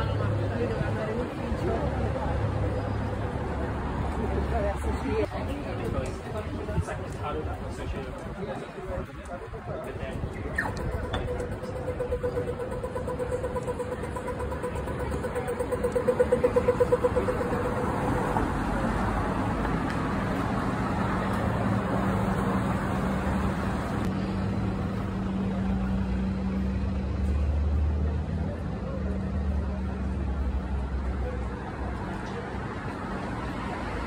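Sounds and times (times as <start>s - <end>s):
cars passing: 0.0s - 7.5s, 10.8s - 34.0s
deep traffic rumble: 0.0s - 34.0s.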